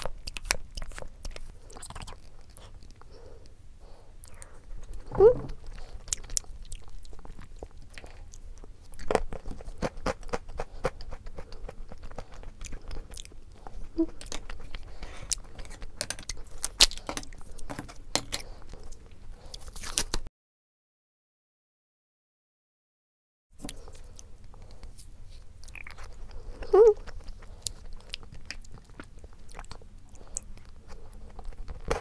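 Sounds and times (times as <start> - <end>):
crunchy chewing: 0.0 - 20.3, 23.6 - 32.0.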